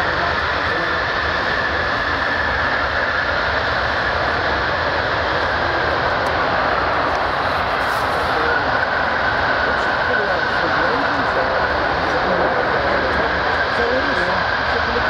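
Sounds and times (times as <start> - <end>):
high jet engine whine: 0.0 - 15.0
jet engines roaring: 0.0 - 15.0.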